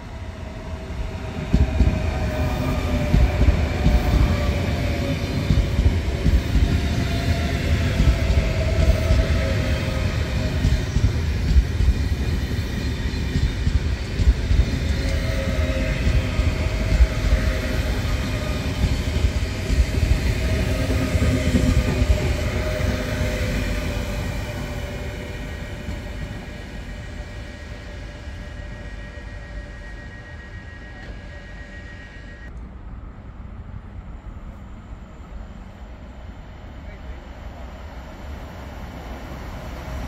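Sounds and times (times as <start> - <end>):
train wheels rumbling on rails: 0.0 - 40.0
train whine: 0.0 - 40.0.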